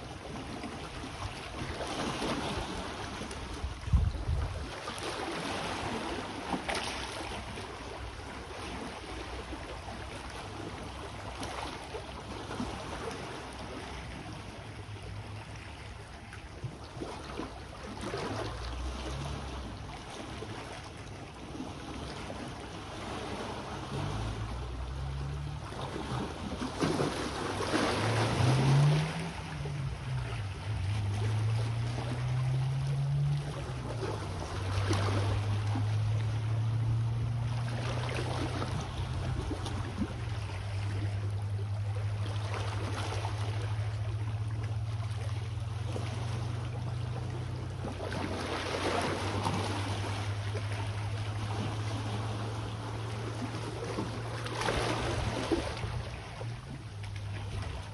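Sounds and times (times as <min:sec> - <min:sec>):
low engine hum: 0:00.0 - 0:57.9
small waves washing ashore: 0:00.0 - 0:57.9.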